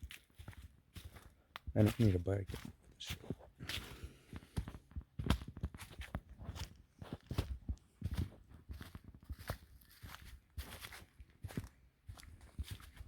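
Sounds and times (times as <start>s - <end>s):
footsteps on a trail: 0.0s - 13.0s.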